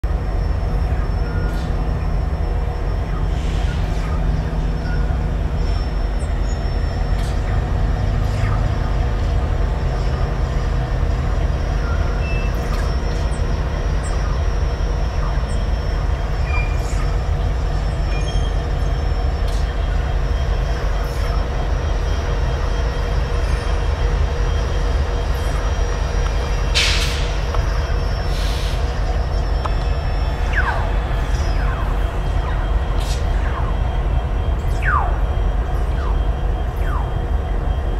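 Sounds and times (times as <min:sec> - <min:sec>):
low rumble of train working: 0:00.0 - 0:37.9.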